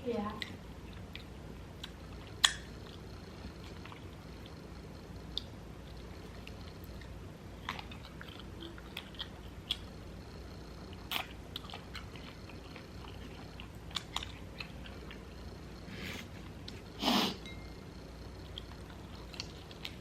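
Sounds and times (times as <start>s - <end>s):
person chewing and crunching food: 0.4s - 4.6s, 5.2s - 10.2s, 10.8s - 16.9s, 18.4s - 20.0s.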